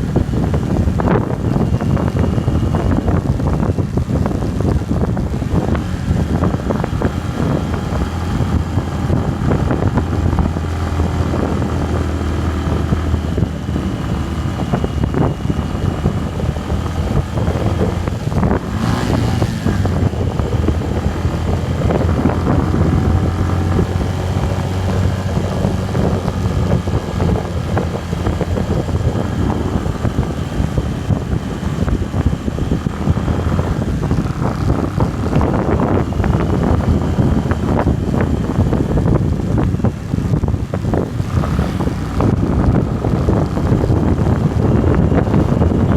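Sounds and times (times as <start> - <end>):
motorcycle engine running: 0.0 - 45.9
wind buffeting microphone: 0.0 - 45.9.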